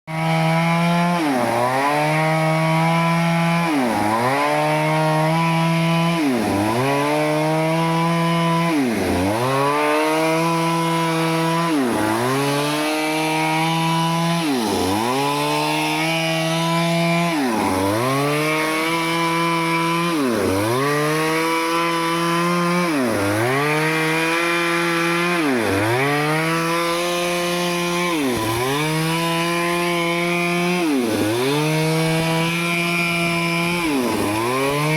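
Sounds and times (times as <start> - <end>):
chainsaw running at high speed: 0.1 - 34.9.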